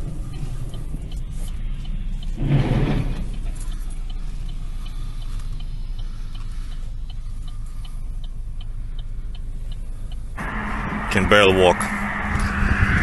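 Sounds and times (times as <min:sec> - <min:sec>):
road rumble inside car: 0:00.0 - 0:13.0.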